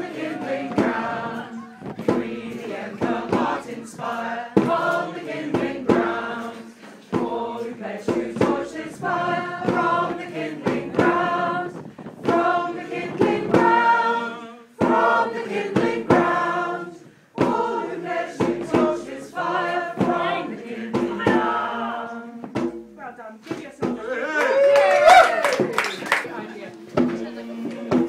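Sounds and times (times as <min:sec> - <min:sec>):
group of voices singing: 0:00.0 - 0:22.8, 0:26.4 - 0:28.0.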